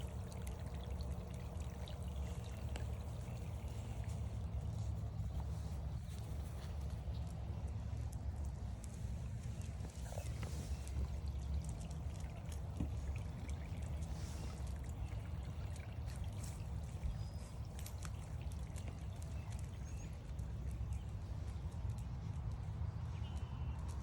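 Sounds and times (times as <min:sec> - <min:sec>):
footsteps on a trail: 0:02.6 - 0:24.0.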